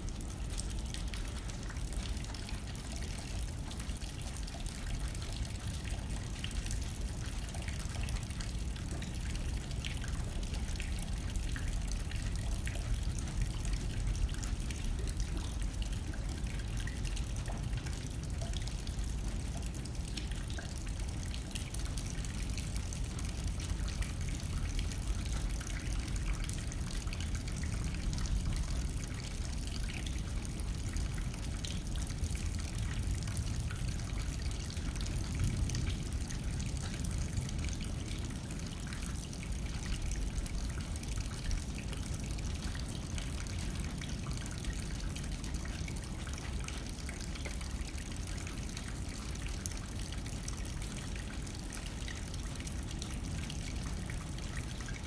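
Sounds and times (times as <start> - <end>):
rain pattering on window: 0.0 - 55.0.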